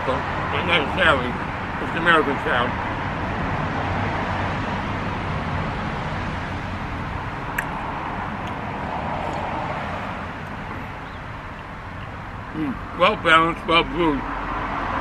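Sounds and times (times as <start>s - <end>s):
road traffic rush: 0.0s - 15.0s.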